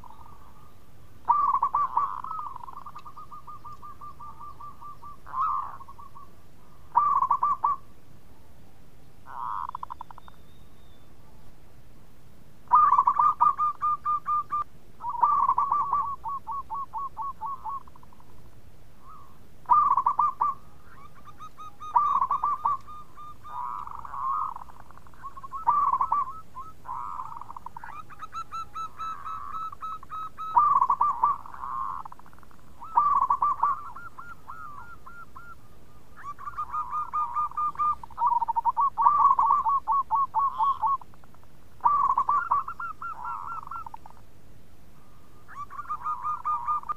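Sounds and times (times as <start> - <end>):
dove cooing: 0.0 - 7.9, 9.2 - 10.3, 12.6 - 18.4, 19.0 - 41.2, 41.8 - 44.2, 45.0 - 46.9.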